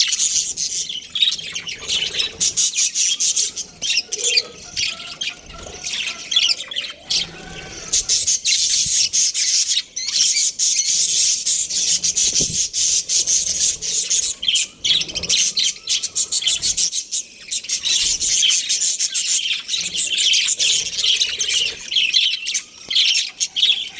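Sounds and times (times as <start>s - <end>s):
budgerigars chattering: 0.0s - 23.9s.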